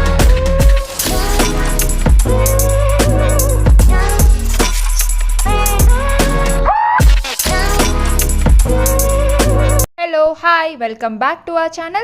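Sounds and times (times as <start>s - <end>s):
music with heavy bass beat: 0.0s - 9.9s.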